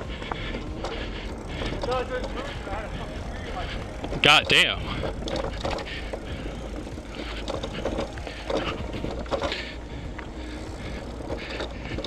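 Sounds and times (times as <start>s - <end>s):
bike rattling over rocks: 0.0s - 12.0s
low steady rumble: 0.0s - 12.0s.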